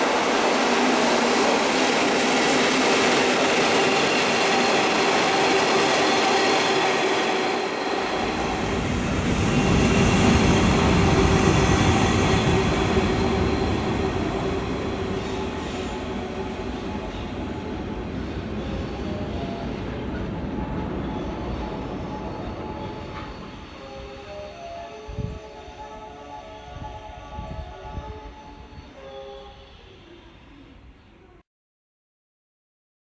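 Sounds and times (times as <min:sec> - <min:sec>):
steady high tones: 0:00.0 - 0:30.8
train rolling noise: 0:00.0 - 0:31.3.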